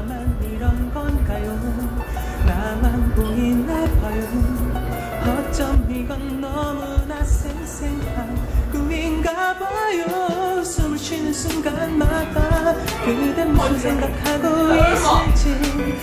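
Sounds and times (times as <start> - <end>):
person singing: 0.0 - 16.0
steady music beat: 0.0 - 16.0.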